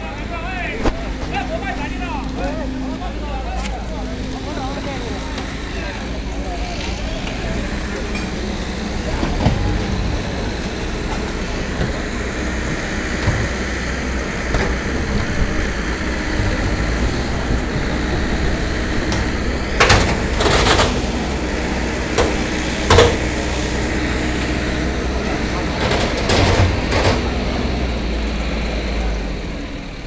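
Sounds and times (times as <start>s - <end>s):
diesel crane engines under load: 0.0s - 30.0s
loud noisy bursts: 0.0s - 30.0s.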